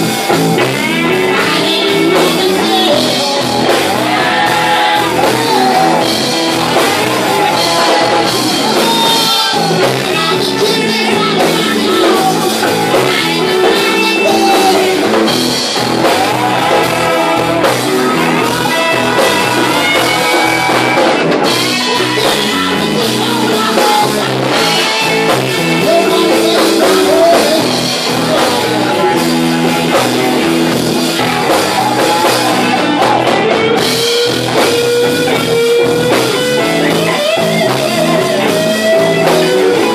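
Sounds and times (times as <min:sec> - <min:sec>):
bass guitar: 0:00.0 - 0:39.9
drum kit: 0:00.0 - 0:39.9
electric guitars: 0:00.0 - 0:39.9
person singing: 0:00.0 - 0:39.9.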